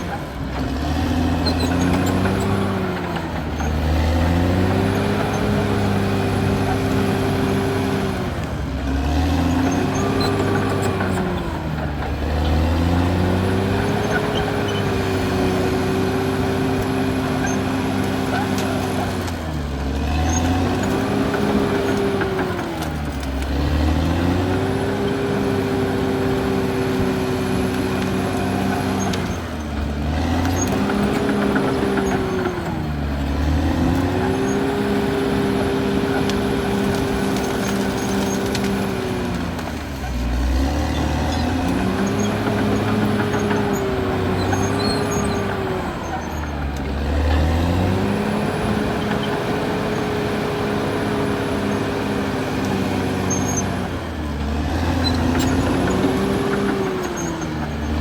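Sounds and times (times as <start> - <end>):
bulldozer diesel engine working hard: 0.0 - 58.0.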